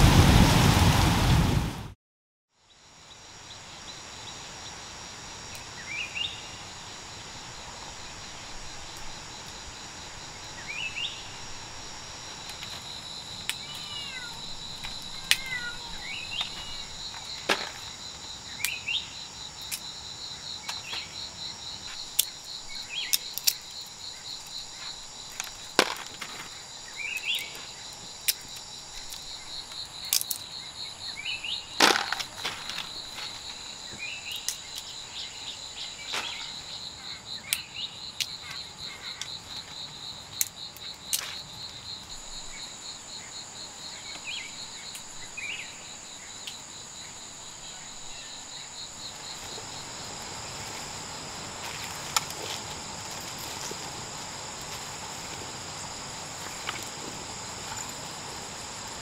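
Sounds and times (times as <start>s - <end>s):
insects chirring trill: 2.6s - 59.0s.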